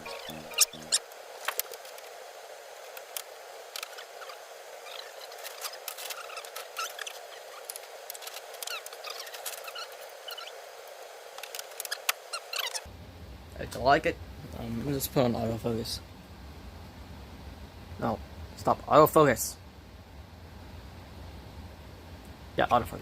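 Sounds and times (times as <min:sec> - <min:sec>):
steady thin hiss: 0:00.0 - 0:19.6.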